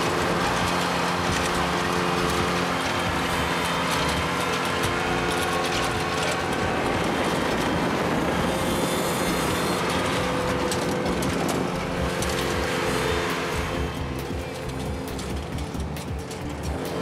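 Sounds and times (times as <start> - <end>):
groomer rattling clatter: 0.0 - 17.0
tractor engine running: 0.0 - 17.0.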